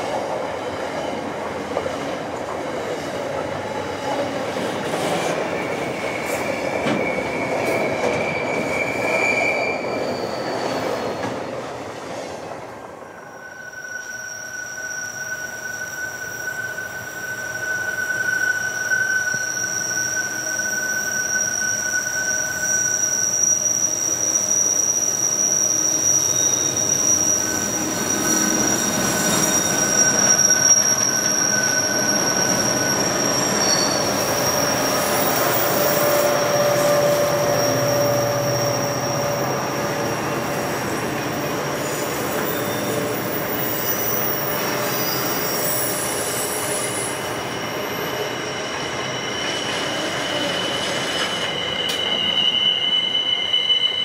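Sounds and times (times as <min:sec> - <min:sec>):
rumble of train wheels: 0:00.0 - 0:14.0, 0:15.1 - 0:54.0
train wheel squeal: 0:00.0 - 0:54.0
diesel locomotive engines: 0:09.9 - 0:54.0.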